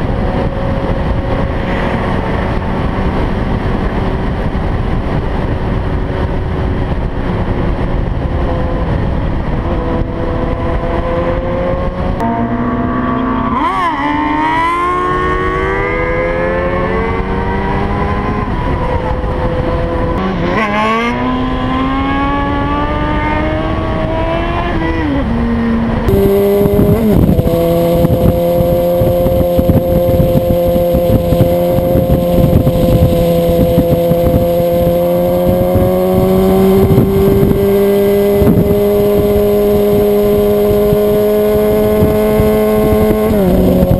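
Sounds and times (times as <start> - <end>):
motorcycle engine accelerating: 0.0 - 43.9
wind rush on microphone: 0.0 - 43.9.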